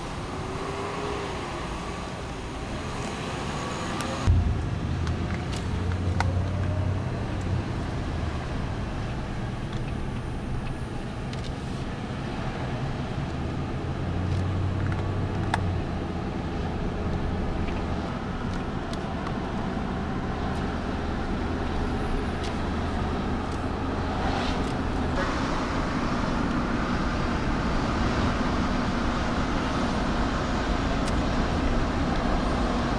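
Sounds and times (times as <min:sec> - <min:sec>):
car engine hum and road noise: 0:00.0 - 0:32.9.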